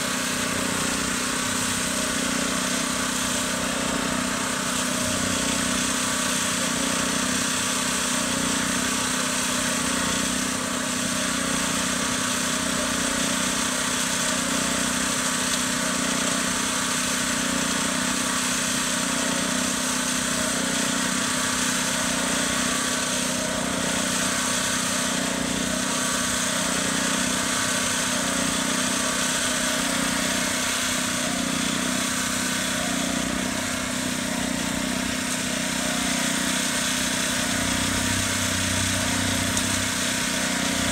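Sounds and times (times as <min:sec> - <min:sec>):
small gasoline engine idling: 0:00.0 - 0:40.9.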